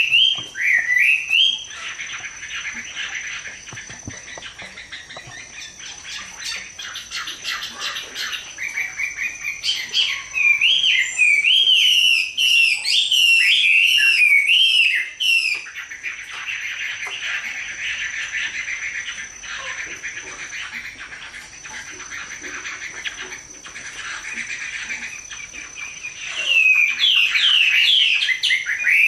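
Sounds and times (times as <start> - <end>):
bird chattering and whistling: 0.0 - 29.0.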